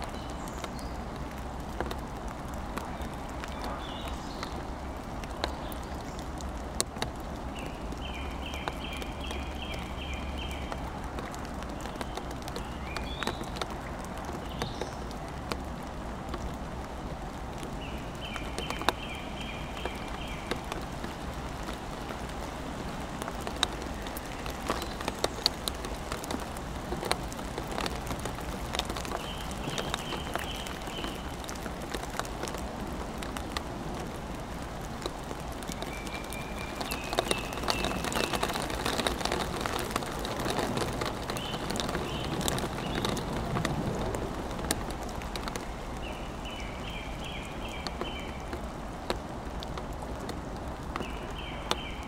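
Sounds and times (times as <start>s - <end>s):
raindrops ticking: 0.0s - 52.0s
steady rain: 0.0s - 52.0s.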